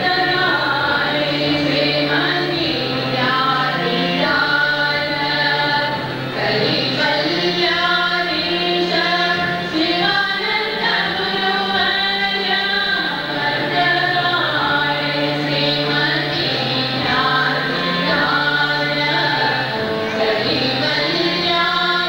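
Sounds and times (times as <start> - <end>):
harmonium: 0.0 - 22.0
tabla: 0.0 - 22.0
women singing in unison: 0.0 - 22.0.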